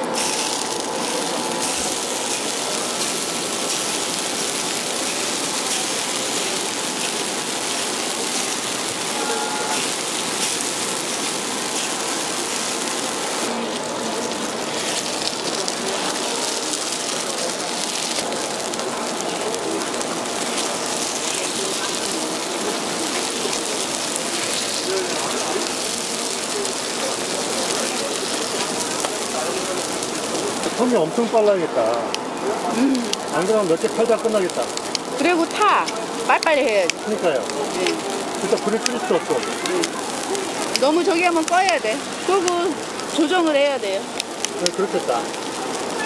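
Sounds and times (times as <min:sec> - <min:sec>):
batter sizzling on a grill: 0:00.0 - 0:46.0.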